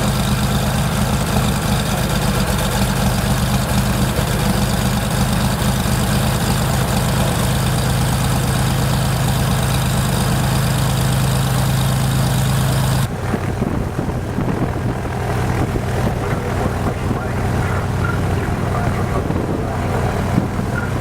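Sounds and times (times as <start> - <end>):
piston engine idling: 0.0 - 21.0.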